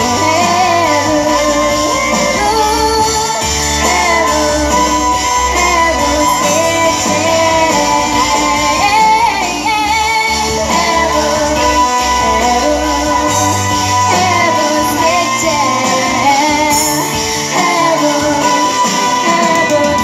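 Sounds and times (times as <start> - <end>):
girl singing into a microphone: 0.0 - 20.0
loud backing music: 0.0 - 20.0.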